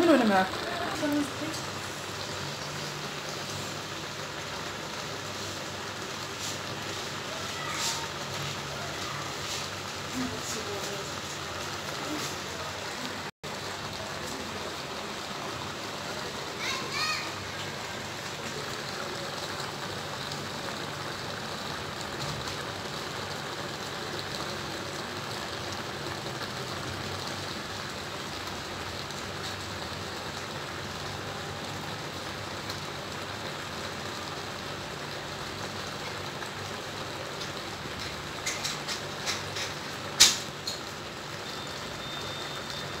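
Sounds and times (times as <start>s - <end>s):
stew bubbling and sizzling in a pan: 0.0s - 43.0s.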